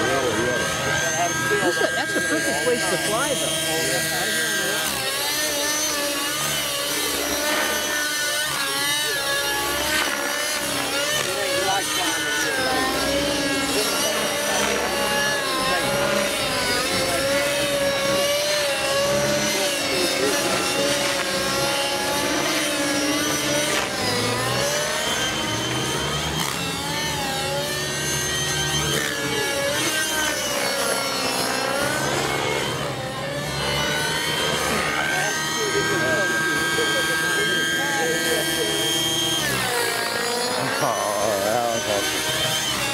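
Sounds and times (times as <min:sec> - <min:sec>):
model helicopter engine and rotors: 0:00.0 - 0:42.9.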